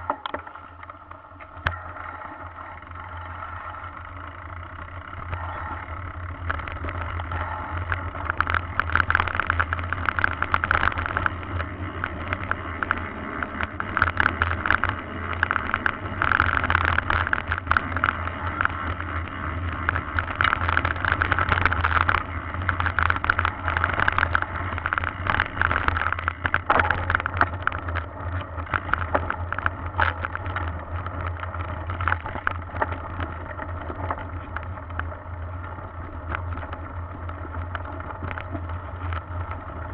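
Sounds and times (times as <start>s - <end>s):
bike rattling over bumps: 0.0s - 39.9s
bike tyres crunching on gravel: 0.0s - 39.9s
steady low hum: 0.0s - 39.9s.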